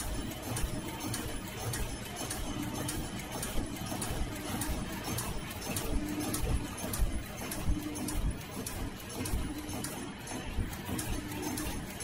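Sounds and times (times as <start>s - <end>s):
machine clattering: 0.0s - 12.0s.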